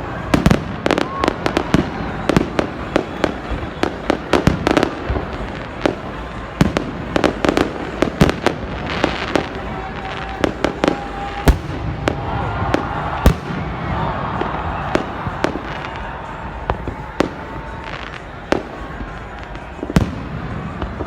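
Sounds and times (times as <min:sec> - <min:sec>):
distant fireworks crackling rumble: 0:00.0 - 0:21.0
fireworks bangs and pops: 0:00.0 - 0:21.0.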